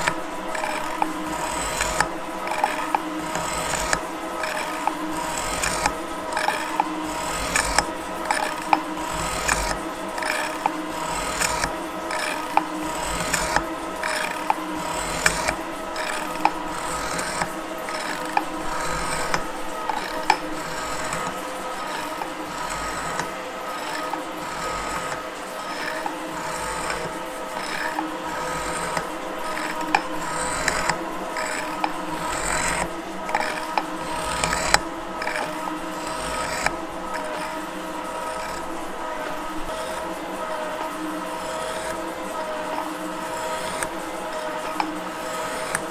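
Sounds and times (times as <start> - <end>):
gear whine: 0.0 - 45.9
metal shaper ram stroking: 0.0 - 45.9.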